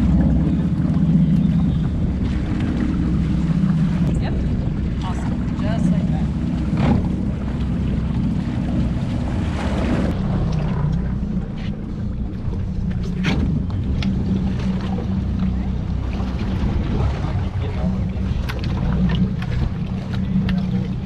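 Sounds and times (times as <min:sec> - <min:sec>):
boat engine running: 0:00.0 - 0:21.0
water noise: 0:00.0 - 0:21.0
wind: 0:00.0 - 0:21.0.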